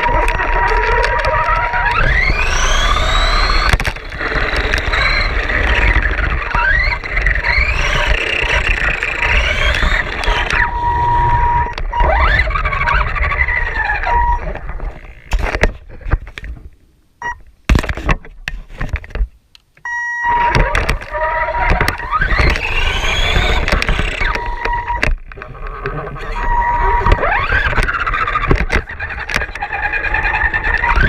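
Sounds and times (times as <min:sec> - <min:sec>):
scattered clicks and knocks: 0:00.0 - 0:10.8, 0:11.6 - 0:16.7, 0:17.3 - 0:26.2, 0:26.9 - 0:31.0
electric motor whining: 0:00.0 - 0:15.5, 0:20.2 - 0:31.0.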